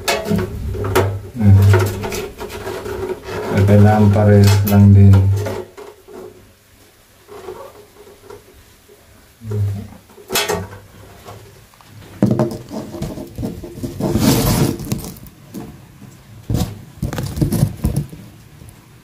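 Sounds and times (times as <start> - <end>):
wires scraping and rattling: 0.0 - 6.5, 7.2 - 8.7, 9.4 - 15.8, 16.5 - 18.3.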